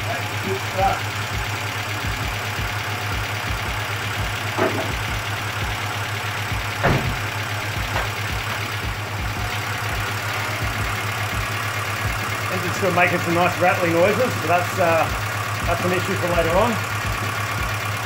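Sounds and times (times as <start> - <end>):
car engine idling with rattling: 0.0 - 18.0.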